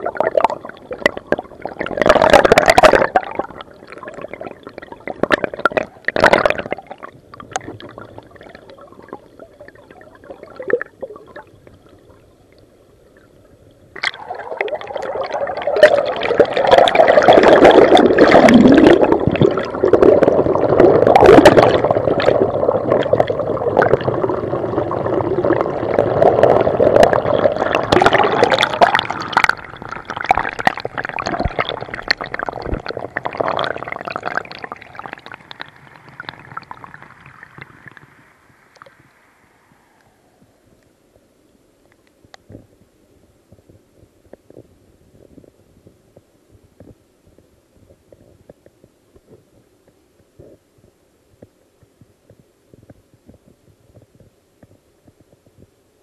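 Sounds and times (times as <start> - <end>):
muffled underwater creek water: 0.0 - 56.0.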